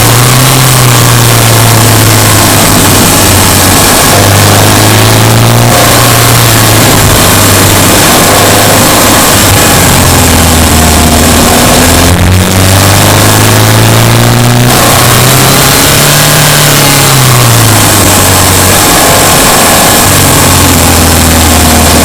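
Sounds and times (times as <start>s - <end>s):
car engine under varying throttle: 0.0s - 22.0s.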